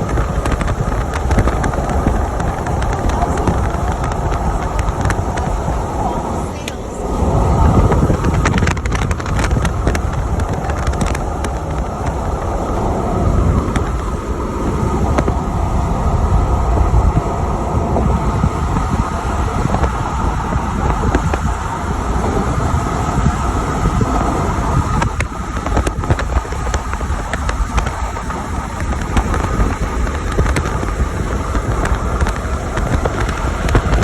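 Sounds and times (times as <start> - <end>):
road and wind noise: 0.0 - 34.0
wind buffeting microphone: 0.0 - 34.0.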